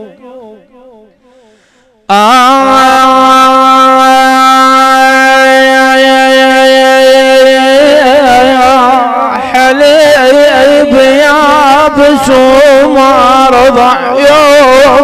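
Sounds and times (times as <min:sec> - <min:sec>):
man chanting: 0:00.0 - 0:01.2, 0:02.1 - 0:15.0.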